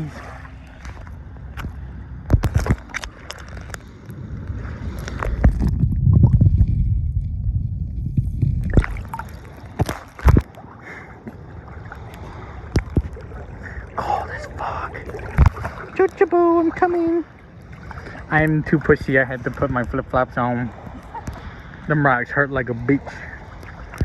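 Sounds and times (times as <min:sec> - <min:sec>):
low rumble: 0:00.0 - 0:22.7
water sloshing and splashing: 0:00.0 - 0:24.0.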